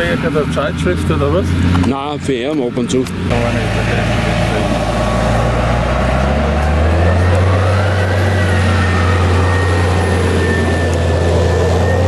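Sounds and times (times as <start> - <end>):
forage harvester engine drone: 0.0 - 12.0
tractor hauling trailer: 0.0 - 12.0.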